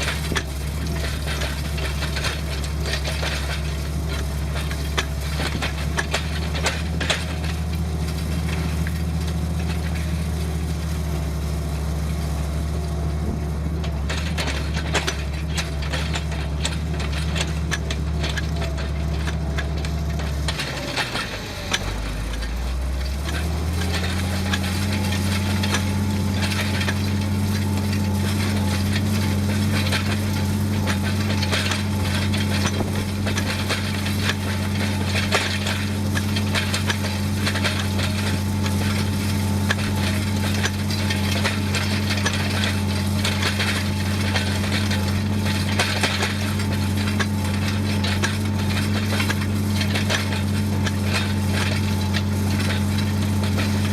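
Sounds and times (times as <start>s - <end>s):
light rattling and clattering: 0.0s - 53.9s
tractor diesel engine running: 0.0s - 53.9s.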